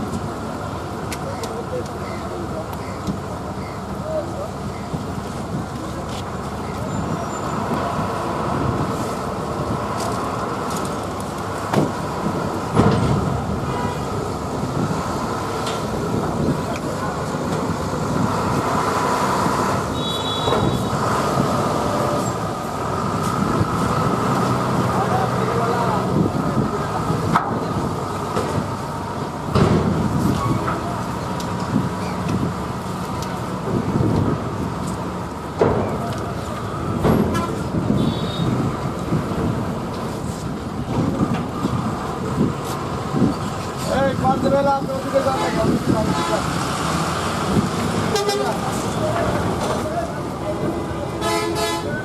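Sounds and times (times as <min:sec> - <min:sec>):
bus diesel engine running: 0:00.0 - 0:52.0
traffic noise: 0:00.0 - 0:52.0.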